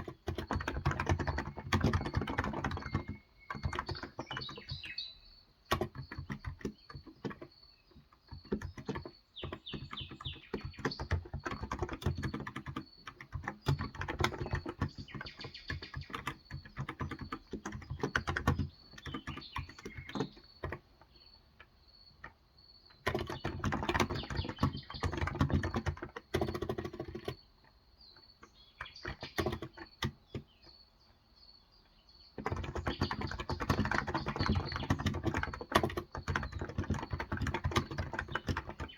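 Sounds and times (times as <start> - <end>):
muted keyboard keystrokes: 0.0 - 5.0, 5.7 - 22.4, 23.0 - 27.4, 28.4 - 30.5, 32.4 - 38.9.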